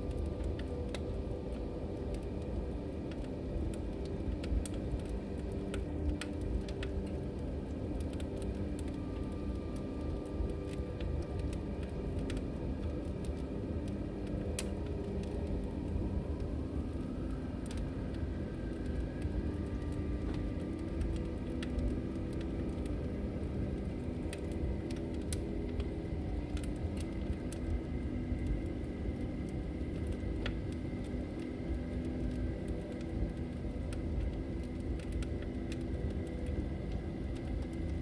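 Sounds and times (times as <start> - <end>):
log fire rumbling and crackling: 0.0 - 38.0.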